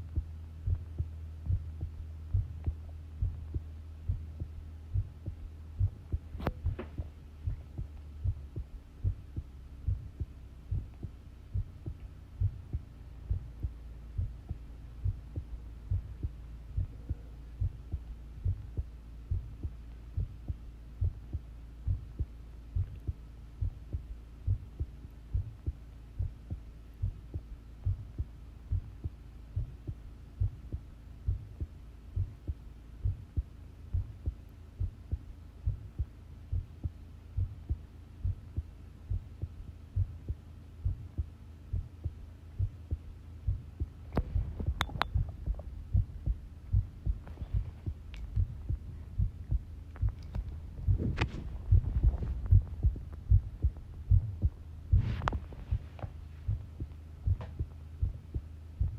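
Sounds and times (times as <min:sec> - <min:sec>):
heartbeat thumps: 0:00.0 - 0:58.9
steady low hum: 0:00.0 - 0:58.9.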